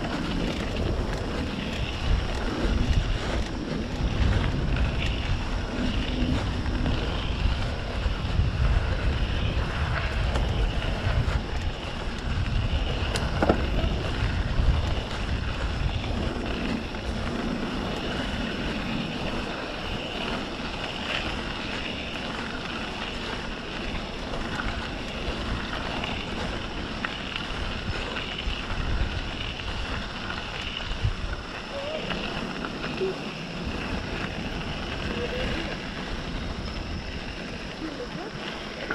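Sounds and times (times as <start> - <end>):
bike rumbling on dirt trail: 0.0 - 38.9
wind buffeting microphone: 0.0 - 38.9.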